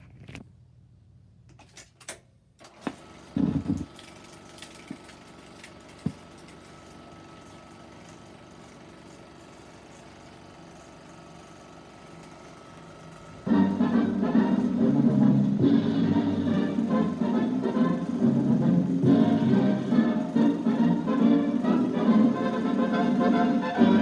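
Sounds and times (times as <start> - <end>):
mechanical hum and hiss: 2.6 - 24.0.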